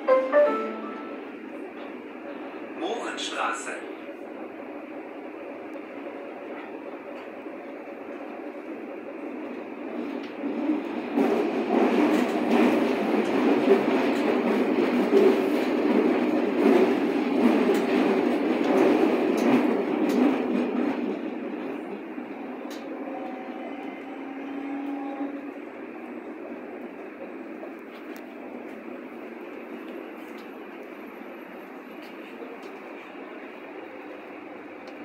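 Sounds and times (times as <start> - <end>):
train wheel and rail rumble: 0.0 - 35.0.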